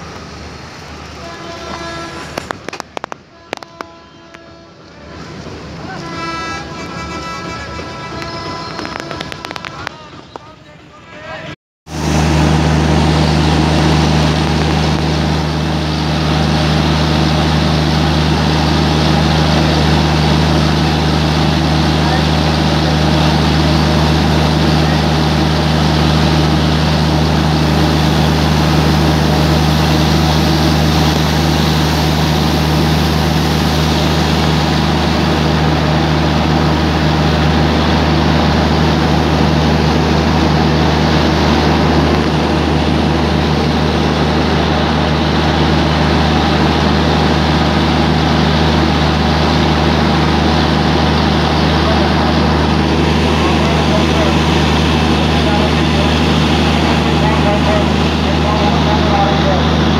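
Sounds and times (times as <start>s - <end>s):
locomotive engine drone: 0.0s - 59.9s
rain hissing: 11.9s - 59.9s.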